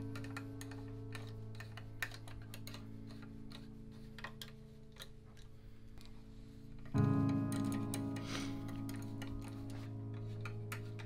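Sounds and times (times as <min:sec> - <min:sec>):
background music chord: 0:00.0 - 0:11.0.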